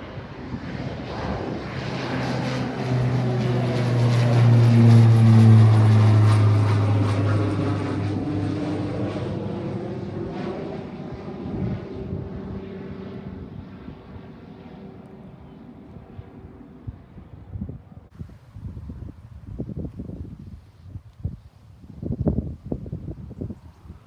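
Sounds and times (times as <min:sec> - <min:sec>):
propeller aircraft engine drone: 0:00.0 - 0:24.0.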